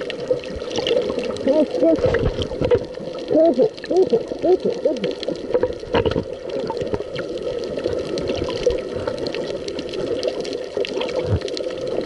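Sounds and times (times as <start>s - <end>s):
underwater clicks and crackles: 0.0s - 12.0s
underwater gurgling and bubbling: 0.0s - 12.0s.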